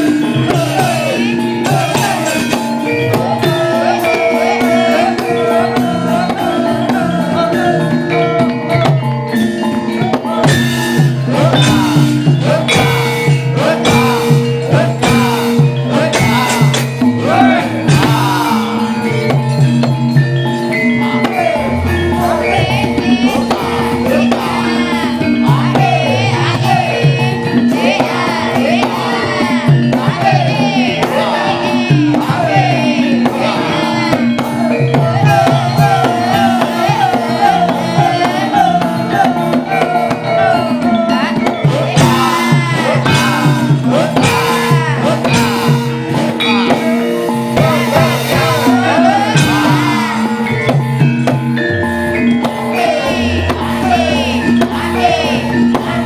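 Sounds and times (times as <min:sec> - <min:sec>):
person singing ornamented line: 0:00.0 - 0:56.0
ringing metallophone tones: 0:00.0 - 0:56.0.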